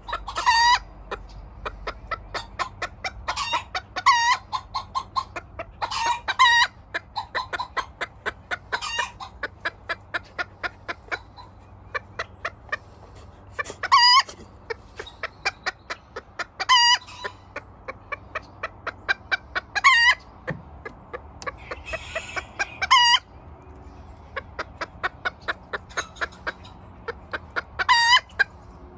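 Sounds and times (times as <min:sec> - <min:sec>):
hens clucking: 0:00.0 - 0:28.9
hen squawking: 0:00.1 - 0:23.3.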